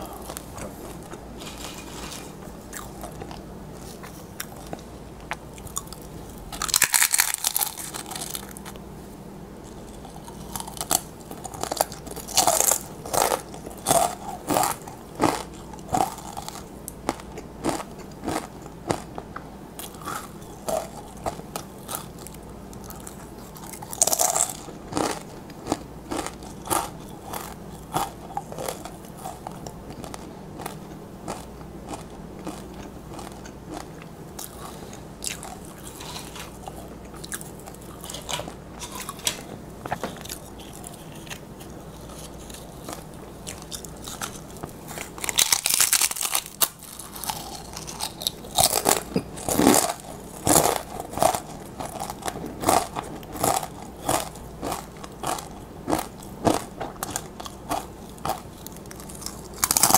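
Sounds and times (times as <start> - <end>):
person crunching tortilla chips: 0.0 - 4.8, 5.6 - 8.8, 9.7 - 19.2, 19.8 - 59.9.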